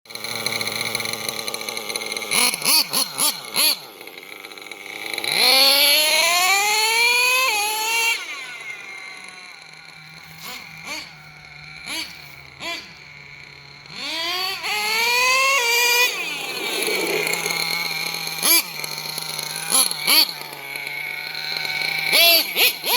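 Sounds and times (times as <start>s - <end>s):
rc truck motor whining: 0.1s - 22.9s.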